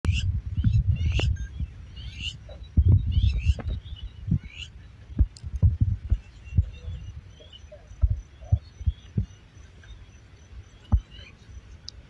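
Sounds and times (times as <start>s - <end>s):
wind buffeting microphone: 0.0s - 11.8s
rising bird chirps: 0.1s - 12.0s.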